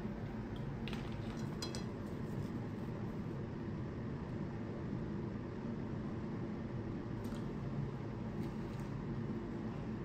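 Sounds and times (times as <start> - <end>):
room noise rumble and hiss: 0.0 - 10.0.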